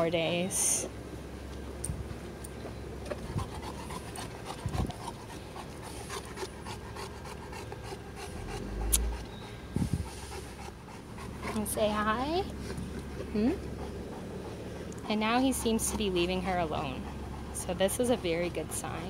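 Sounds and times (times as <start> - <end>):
dog panting: 3.1 - 19.0.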